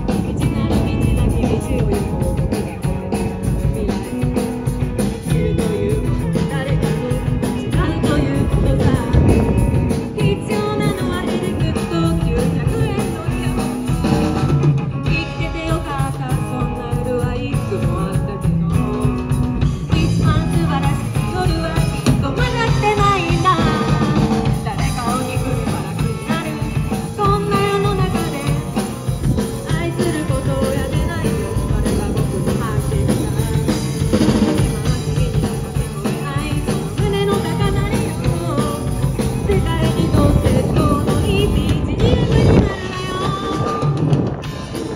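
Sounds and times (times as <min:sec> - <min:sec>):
drum kit beat: 0:00.0 - 0:44.9
electric bass: 0:00.0 - 0:44.9
electric guitar: 0:00.0 - 0:44.9.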